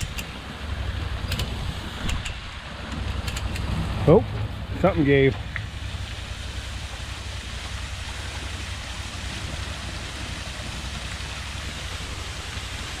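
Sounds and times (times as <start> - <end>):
water pouring from drain pipe: 0.0 - 13.0
wind rumbling on microphone: 0.0 - 13.0.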